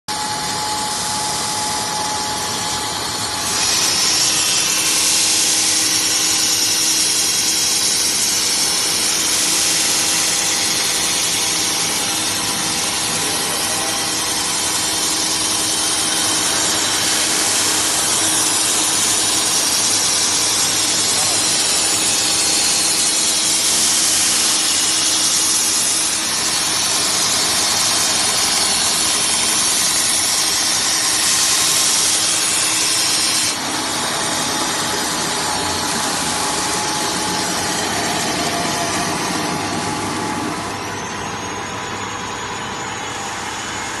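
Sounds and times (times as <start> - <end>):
belt grinder grinding metal: 0.2 - 40.8.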